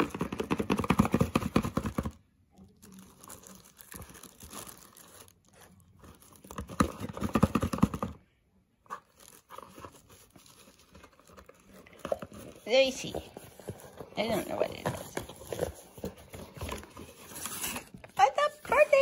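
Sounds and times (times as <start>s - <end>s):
cardboard rustling: 2.8s - 8.2s, 8.8s - 19.0s.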